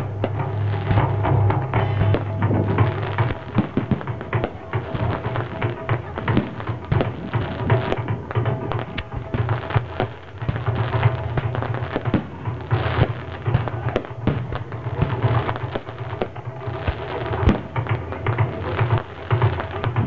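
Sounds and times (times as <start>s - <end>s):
fireworks bursting and crackling: 0.0s - 20.0s
taiko drumming: 0.0s - 20.0s.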